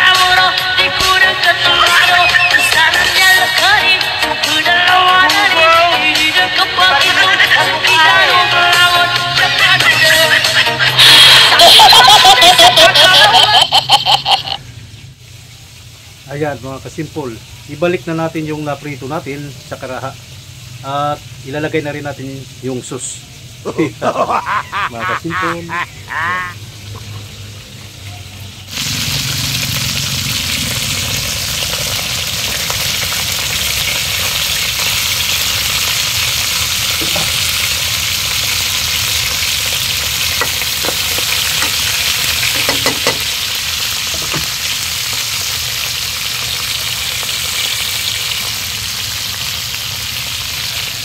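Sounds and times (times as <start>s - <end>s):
fish sizzling in a wok: 0.0s - 51.0s.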